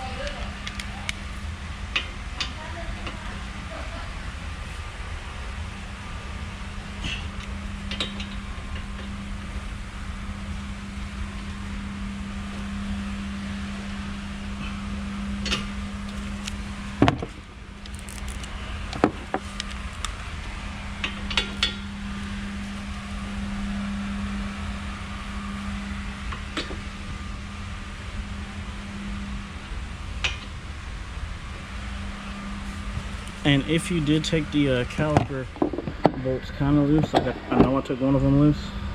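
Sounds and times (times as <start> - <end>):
low hum of shop noise: 0.0 - 38.9.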